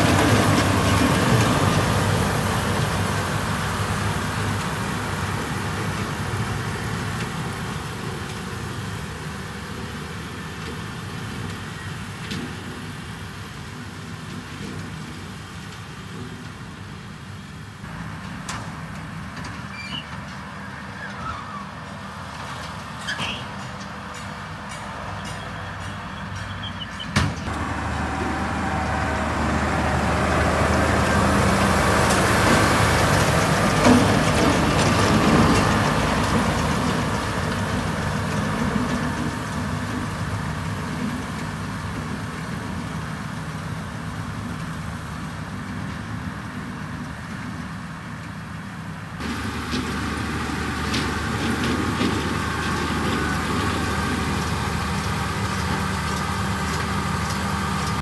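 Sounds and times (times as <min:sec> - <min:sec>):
baler rolling hay: 0:00.0 - 0:58.0
tractor diesel engine running: 0:00.0 - 0:58.0.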